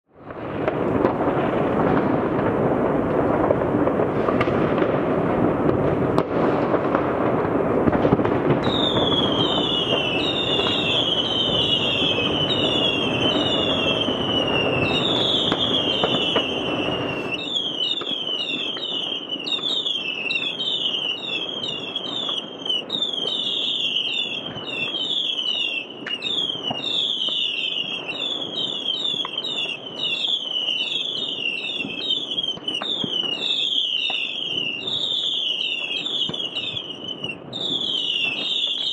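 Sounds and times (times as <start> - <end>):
fireworks crackling and banging: 0.1 - 38.9
whistling fireworks: 0.1 - 38.9.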